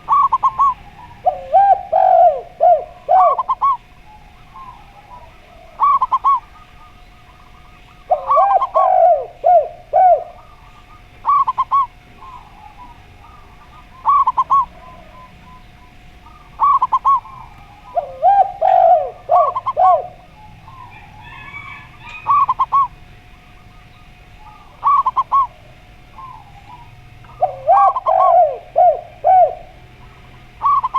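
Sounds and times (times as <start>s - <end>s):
dove cooing high quick phrases: 0.0s - 6.6s, 8.1s - 23.0s, 24.4s - 30.9s
dove low falling coos: 0.0s - 30.9s.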